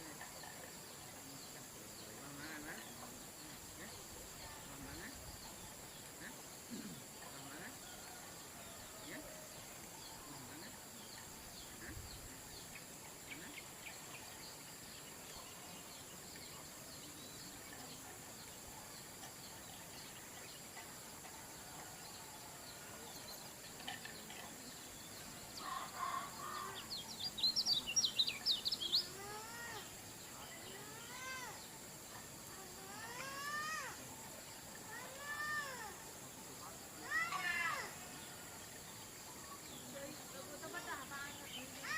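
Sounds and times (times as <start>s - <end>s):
steady high hiss: 0.0s - 41.9s.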